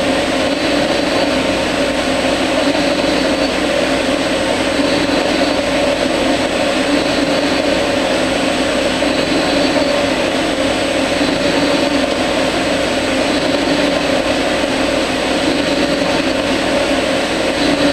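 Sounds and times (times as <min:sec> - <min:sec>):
metal lathe drone and whine: 0:00.0 - 0:17.9.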